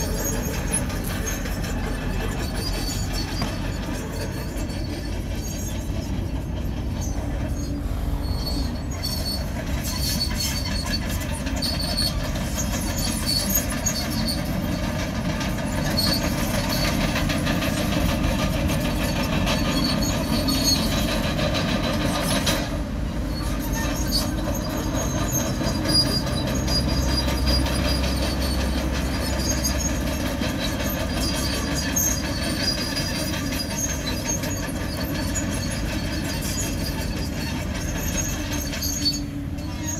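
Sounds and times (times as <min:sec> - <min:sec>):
bulldozer engine rumble: 0:00.0 - 0:39.9
steel tracks squealing and clanking: 0:00.0 - 0:39.9.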